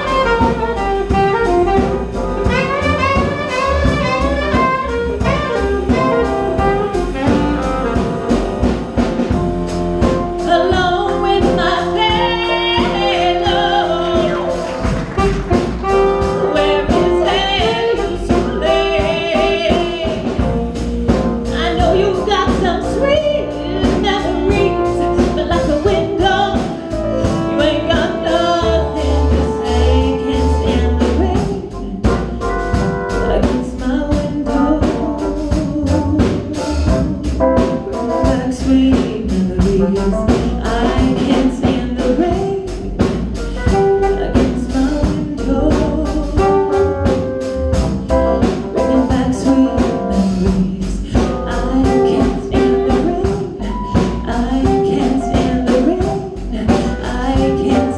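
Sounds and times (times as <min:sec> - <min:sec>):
live blues band playing: 0:00.0 - 0:57.9.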